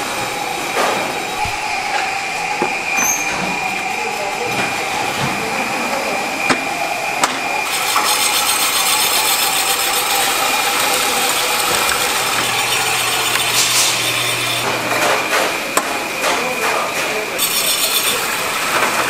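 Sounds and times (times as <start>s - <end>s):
cutting machine whining: 0.0s - 19.0s.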